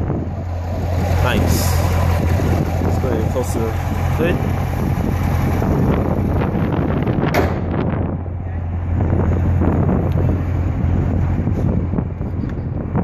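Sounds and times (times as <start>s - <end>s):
car engine idling: 0.0s - 13.0s
wind buffeting microphone: 0.0s - 13.0s.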